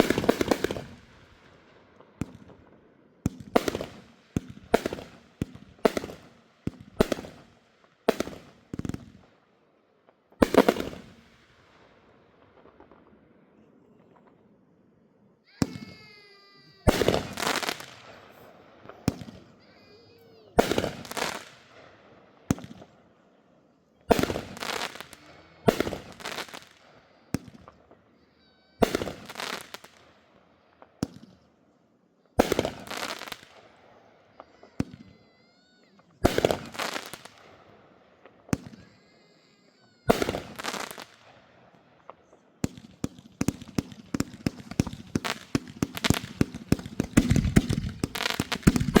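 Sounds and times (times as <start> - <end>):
fireworks banging: 0.0 - 9.3, 10.1 - 14.5, 15.4 - 23.0, 24.1 - 30.2, 32.4 - 49.0.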